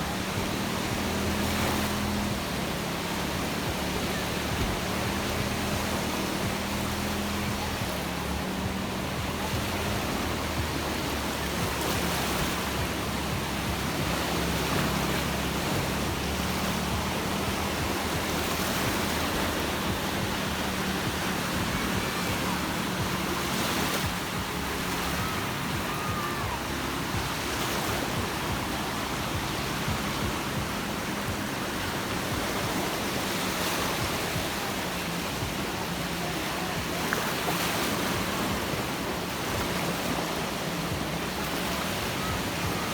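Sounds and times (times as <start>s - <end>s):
sea waves washing onto beach: 0.0s - 42.9s.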